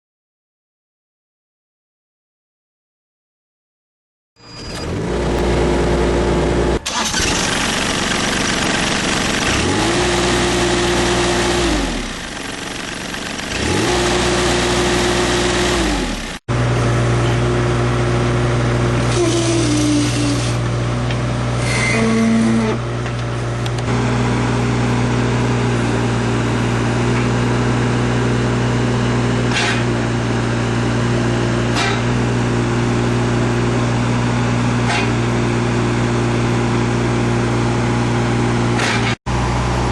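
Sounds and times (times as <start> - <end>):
diesel engine revving: 4.8 - 39.9.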